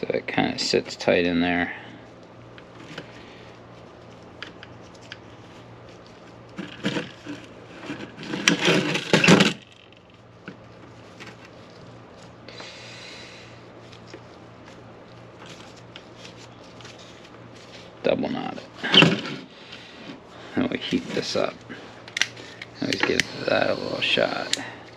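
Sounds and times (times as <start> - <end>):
steady low hum: 0.0 - 24.9
scraping and rubbing: 2.6 - 12.4, 13.7 - 24.9.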